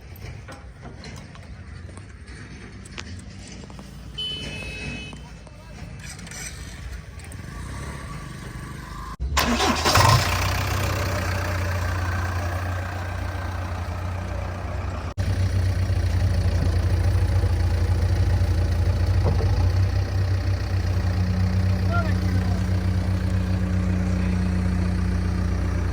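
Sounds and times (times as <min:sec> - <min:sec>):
diesel engine starting and running: 0:00.0 - 0:25.9.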